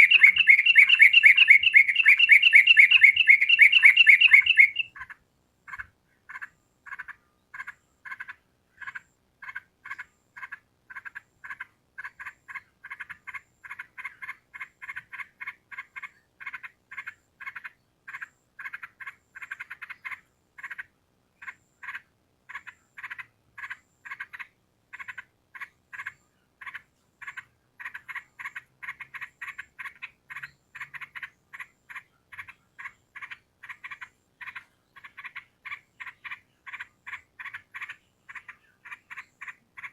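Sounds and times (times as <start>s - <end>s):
bird chattering rapidly: 0.0s - 39.9s.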